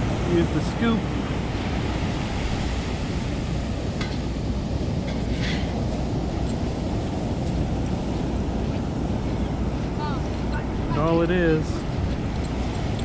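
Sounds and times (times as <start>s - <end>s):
surf washing: 0.0s - 13.0s
wind over microphone: 0.0s - 13.0s.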